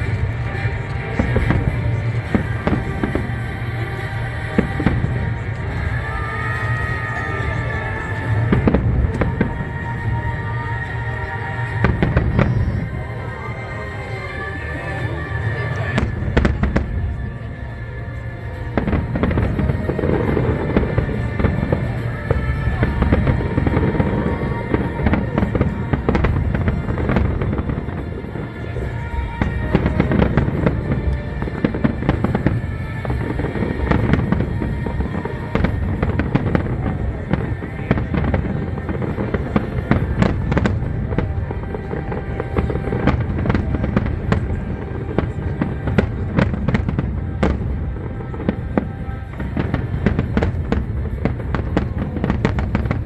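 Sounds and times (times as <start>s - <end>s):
fireworks bangs and crackling: 0.0s - 53.0s
music playing: 0.0s - 53.0s.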